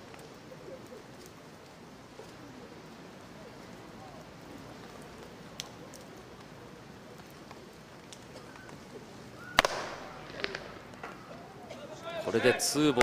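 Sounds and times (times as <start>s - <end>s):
murmur of sparse crowd: 0.0s - 13.0s.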